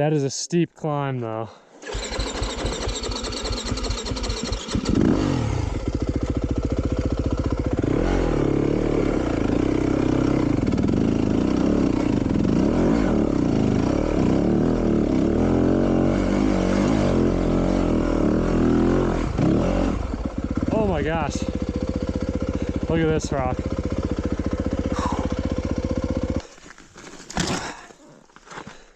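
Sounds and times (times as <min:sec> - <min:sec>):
dirt bike engine revving: 0:01.8 - 0:26.6.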